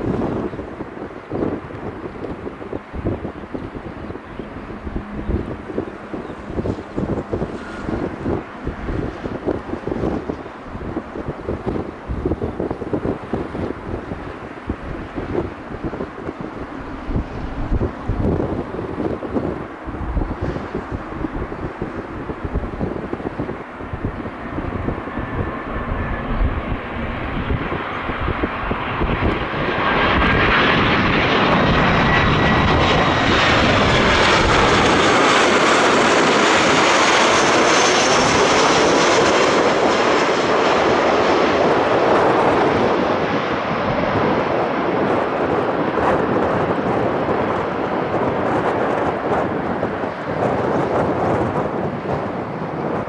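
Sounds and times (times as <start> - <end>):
aircraft engines passing: 0.0 - 53.0
wind buffeting microphone: 0.0 - 53.0.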